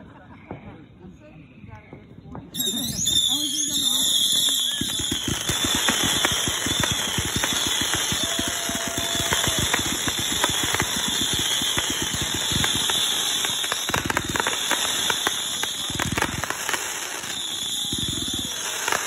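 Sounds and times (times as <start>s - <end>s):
fireworks popping rapidly: 2.4s - 19.0s.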